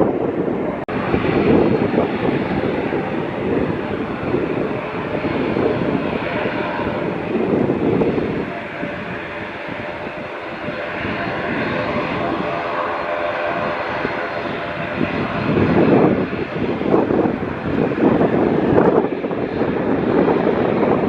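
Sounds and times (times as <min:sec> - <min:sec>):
airliner engines running: 0:00.0 - 0:21.0
wind rumbling on microphone: 0:00.0 - 0:21.0.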